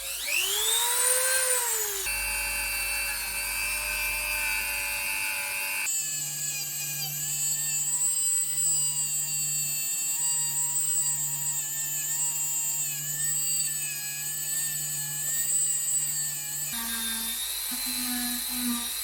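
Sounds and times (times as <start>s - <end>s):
power tool motor whine: 0.0s - 19.0s.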